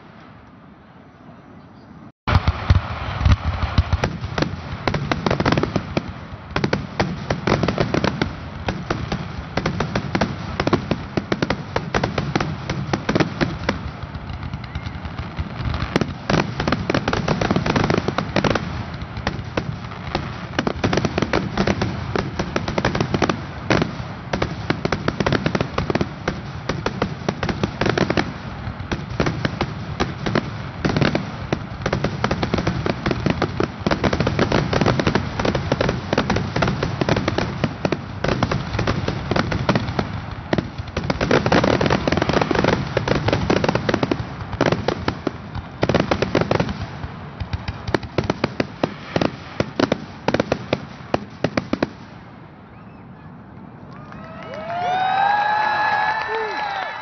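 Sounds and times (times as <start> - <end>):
fireworks launches and bursts: 2.3 - 53.0.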